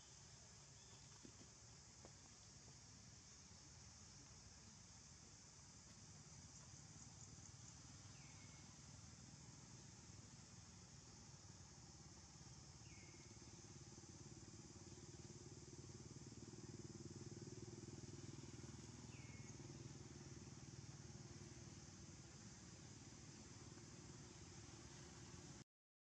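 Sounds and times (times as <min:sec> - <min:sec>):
faint chirps: 0:00.0 - 0:25.6
steady high hiss: 0:00.0 - 0:25.6.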